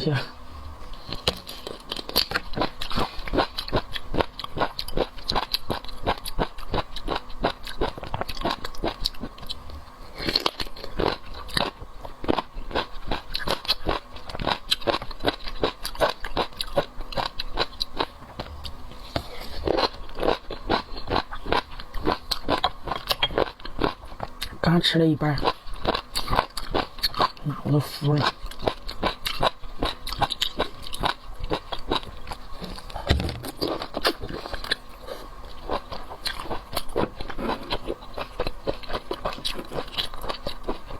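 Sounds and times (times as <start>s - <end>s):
chewing seafood: 0.8s - 40.9s.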